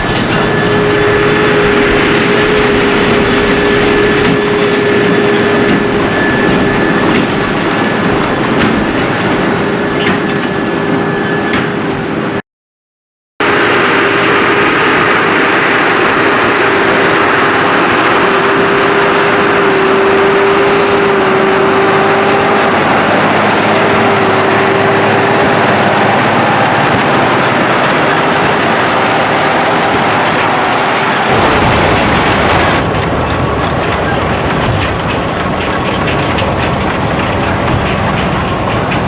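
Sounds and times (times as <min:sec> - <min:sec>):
tractor and baler droning: 0:00.0 - 0:12.4, 0:13.4 - 0:32.9.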